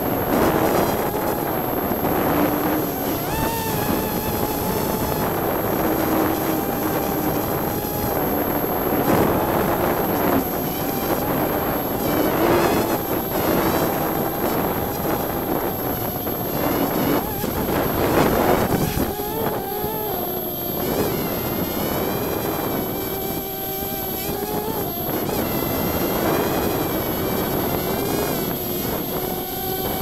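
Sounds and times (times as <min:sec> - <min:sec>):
drone propellers whining: 0:00.0 - 0:30.0.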